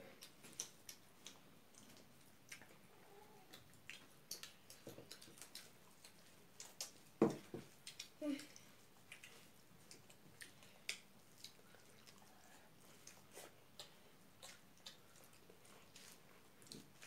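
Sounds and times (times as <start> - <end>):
chewing smacks and clicks: 0.2 - 7.1, 7.7 - 17.0.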